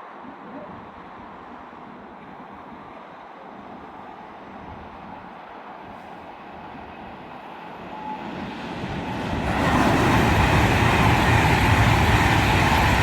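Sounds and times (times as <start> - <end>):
electric train passing at speed: 0.8 - 13.0.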